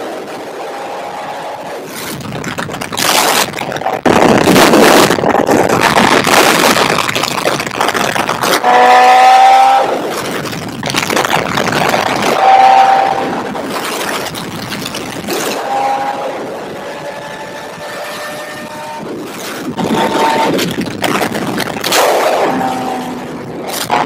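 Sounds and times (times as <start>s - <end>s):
heavy wind rush: 0.0s - 24.0s.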